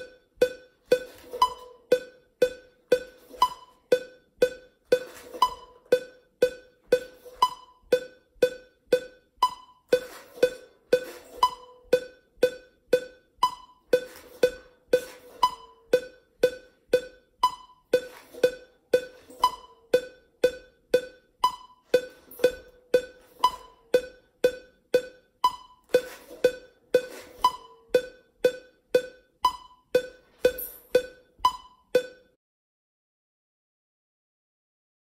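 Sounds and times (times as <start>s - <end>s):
metronome clicking: 0.0s - 32.4s.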